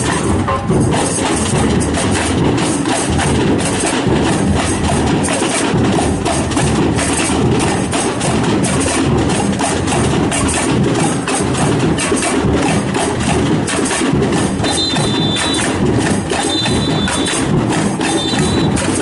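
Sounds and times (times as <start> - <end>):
samba percussion music: 0.0 - 19.0.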